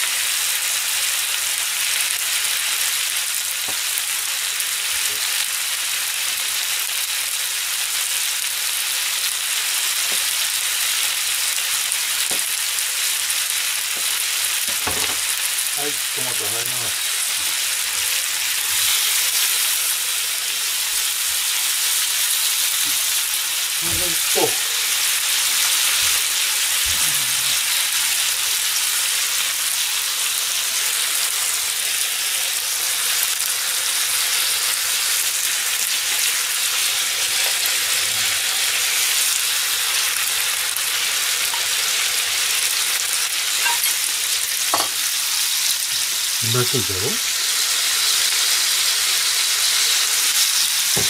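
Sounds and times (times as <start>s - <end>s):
food sizzling in a pan: 0.0s - 51.0s.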